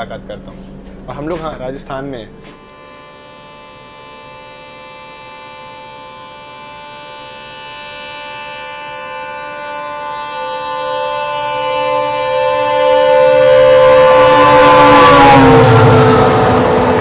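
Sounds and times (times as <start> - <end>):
train horn blast: 2.5 - 17.0.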